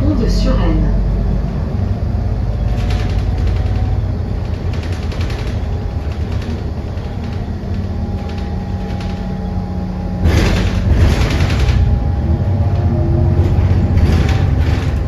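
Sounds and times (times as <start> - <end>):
faint running hum: 0.0 - 15.0
vehicle interior rumble: 0.0 - 15.0.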